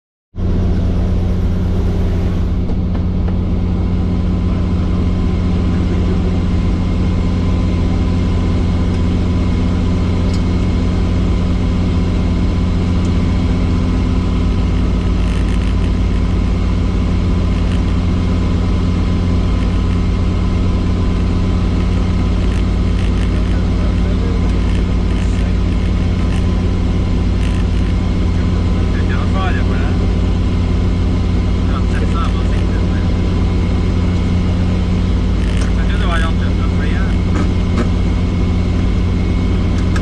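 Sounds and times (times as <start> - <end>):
helicopter rotor and engine drone: 0.4 - 40.0.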